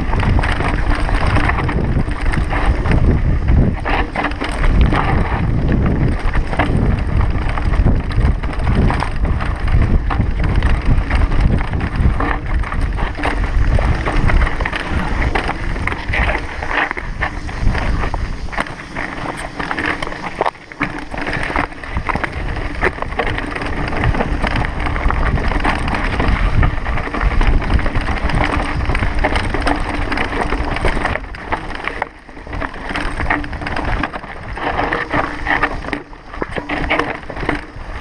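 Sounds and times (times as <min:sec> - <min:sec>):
bike tyres knocking on stones: 0:00.0 - 0:38.0
wind buffeting microphone: 0:00.0 - 0:38.0.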